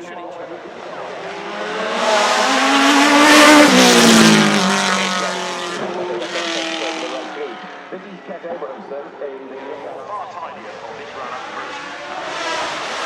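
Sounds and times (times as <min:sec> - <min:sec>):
sports car passing at speed: 0:00.4 - 0:07.9, 0:09.6 - 0:13.0.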